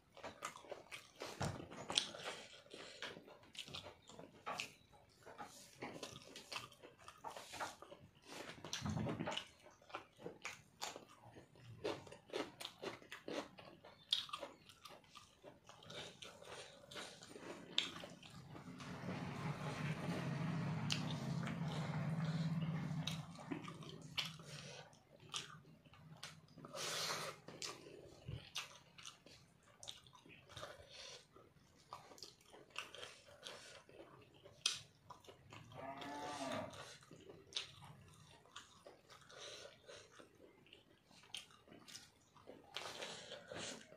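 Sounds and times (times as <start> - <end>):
person chewing with wet smacks: 0.0 - 43.9.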